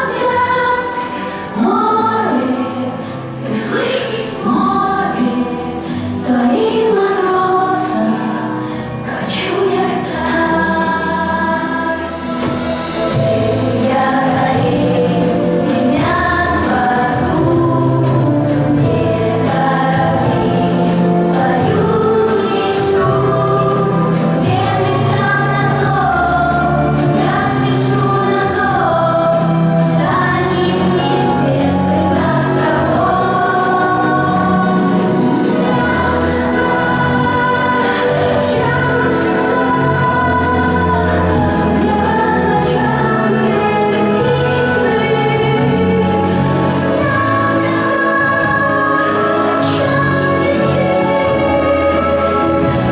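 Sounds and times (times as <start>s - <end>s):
group of voices singing: 0.0s - 52.9s
instrumental backing: 0.0s - 52.9s.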